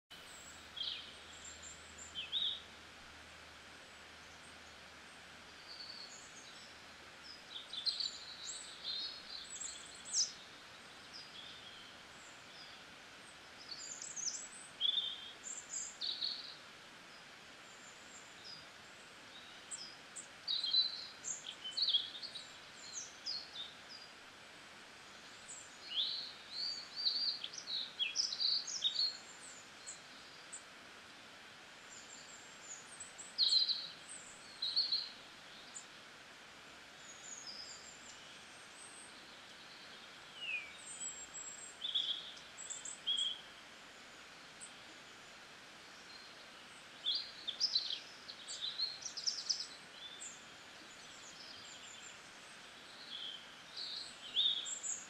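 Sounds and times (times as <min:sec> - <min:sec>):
faint steady hiss: 0:00.1 - 0:55.0
small songbirds chirping: 0:00.1 - 0:55.0.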